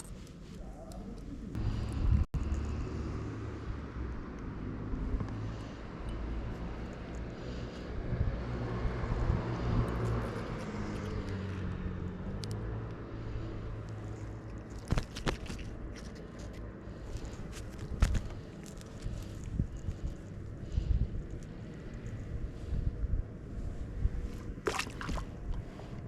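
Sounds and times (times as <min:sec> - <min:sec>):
low engine rumble: 0:00.0 - 0:26.0.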